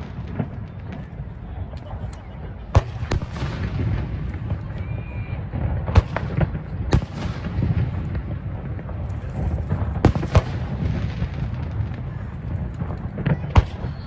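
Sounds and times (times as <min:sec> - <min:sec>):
low rumble and crackle: 0:00.0 - 0:14.0.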